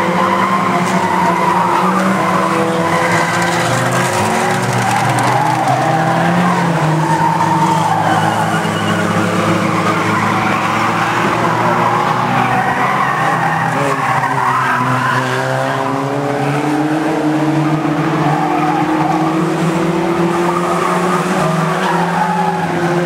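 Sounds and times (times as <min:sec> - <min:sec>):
racing car engines: 0:00.0 - 0:23.0.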